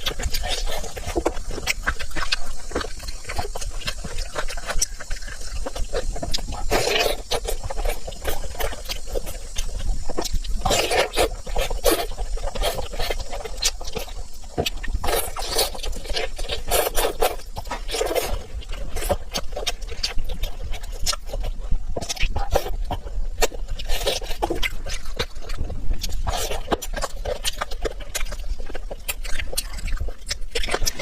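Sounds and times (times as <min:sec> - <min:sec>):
person chewing and smacking: 0:00.0 - 0:31.0
wet mouth clicks: 0:00.0 - 0:31.0.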